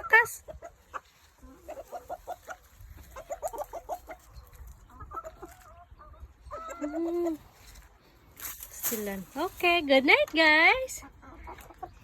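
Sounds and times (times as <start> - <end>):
chickens clucking: 0.0 - 8.4, 10.2 - 12.0.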